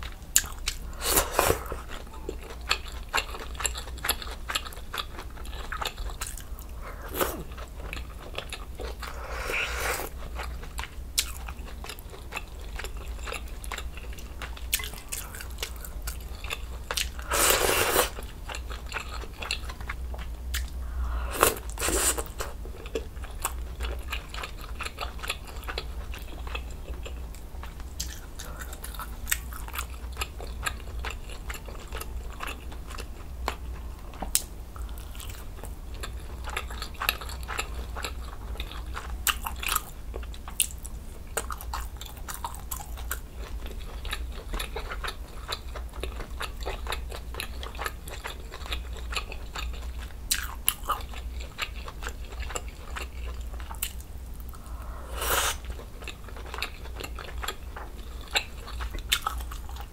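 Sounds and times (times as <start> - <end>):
mouth chewing with wet clicks: 1.8 - 6.6, 10.1 - 17.2, 18.1 - 20.8, 21.6 - 54.7, 55.4 - 59.9.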